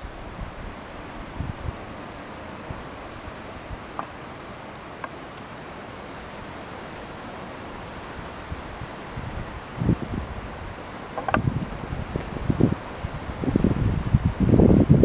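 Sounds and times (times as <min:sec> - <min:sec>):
outdoor background hiss: 0:00.0 - 0:15.0
faint high insect chirp: 0:01.9 - 0:15.0.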